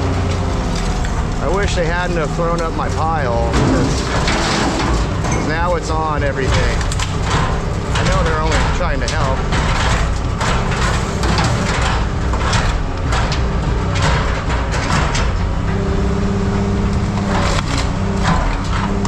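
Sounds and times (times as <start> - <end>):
scrap metal clattering: 0.0 - 16.0
heavy machinery running: 0.0 - 19.0
steady machine hum: 0.0 - 19.0.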